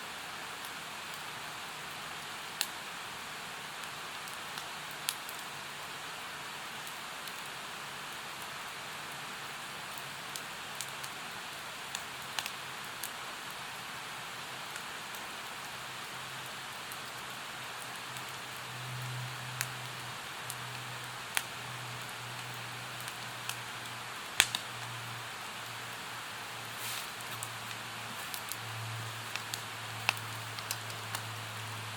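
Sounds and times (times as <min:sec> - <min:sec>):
campfire crackling and popping: 0:00.1 - 0:31.9.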